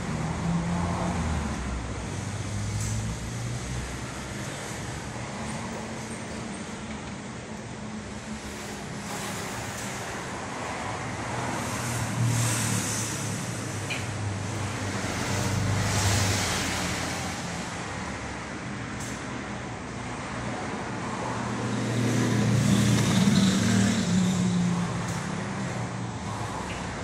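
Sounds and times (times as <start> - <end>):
traffic with engine hum: 0.0 - 27.0.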